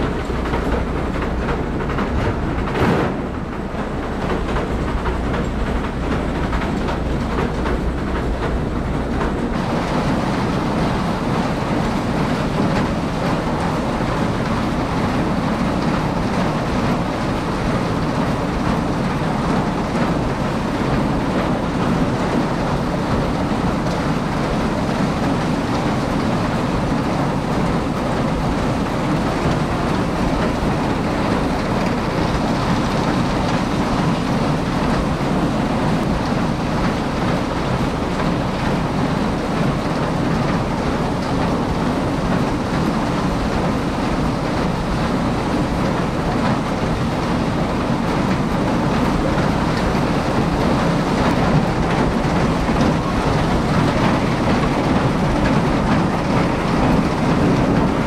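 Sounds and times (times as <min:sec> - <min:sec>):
farm machinery rattling: 0:00.0 - 0:58.0.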